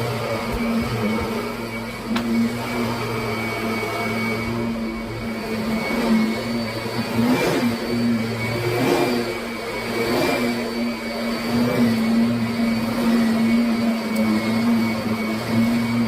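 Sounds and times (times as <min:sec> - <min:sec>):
vacuum cleaner motor hum and whine: 0:00.0 - 0:16.0.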